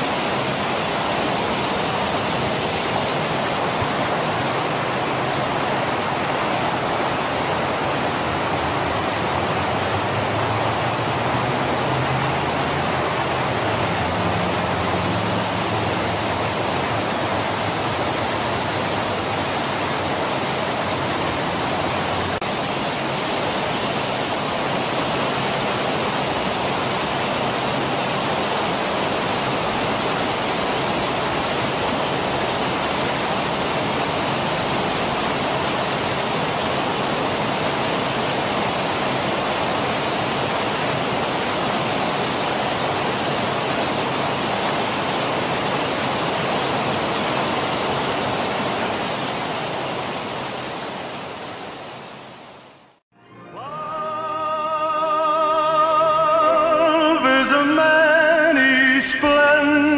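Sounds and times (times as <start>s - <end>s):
waterfall over rocks: 0.0s - 53.0s, 54.6s - 59.9s.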